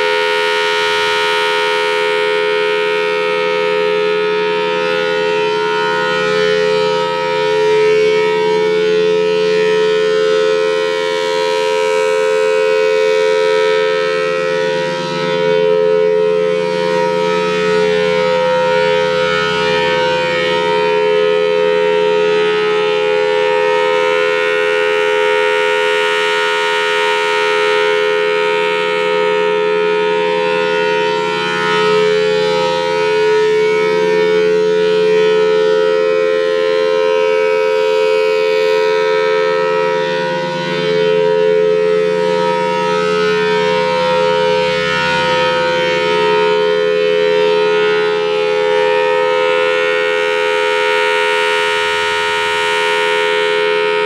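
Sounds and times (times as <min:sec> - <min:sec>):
siren two-note alert: 0:00.0 - 0:54.0.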